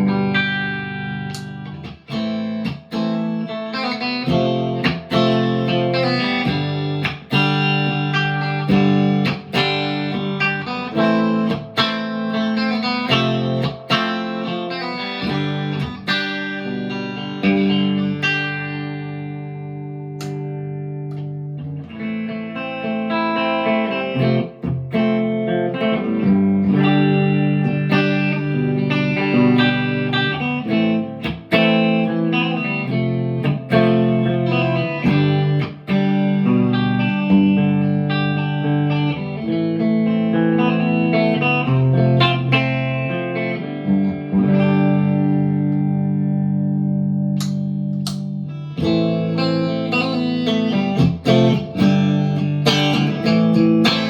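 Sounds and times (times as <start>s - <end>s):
electric guitar chords and notes: 0.0s - 54.0s.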